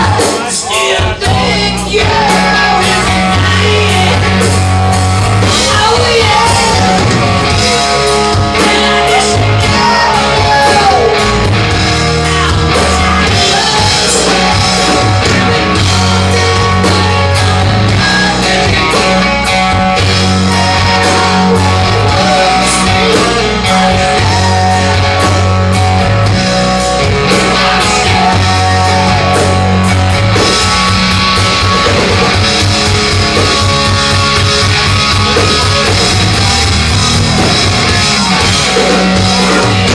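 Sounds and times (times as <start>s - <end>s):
fast low drum beats: 0.0s - 39.9s
hard rock band playing: 0.0s - 39.9s.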